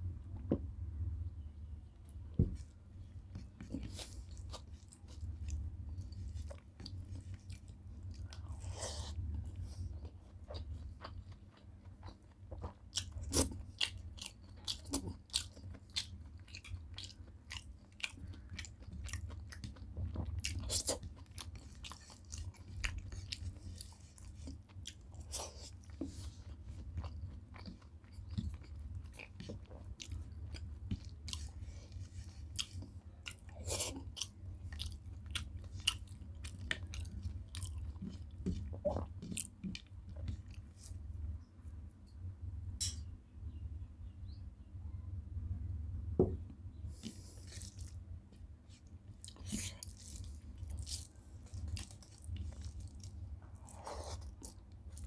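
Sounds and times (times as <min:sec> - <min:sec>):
steady low hum: 0:00.0 - 0:55.0
close chewing: 0:03.3 - 0:41.1, 0:48.7 - 0:55.0.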